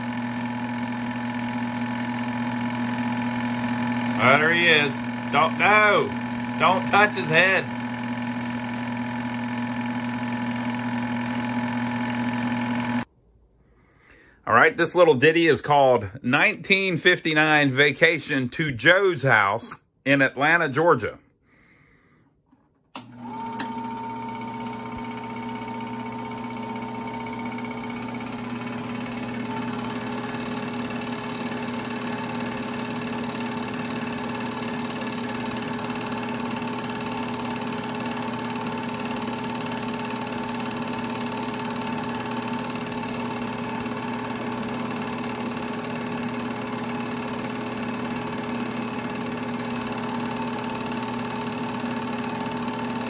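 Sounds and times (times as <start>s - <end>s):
film whirring through projector: 0.0s - 13.1s, 22.9s - 53.0s
projector motor hum: 0.0s - 13.1s, 22.9s - 53.0s.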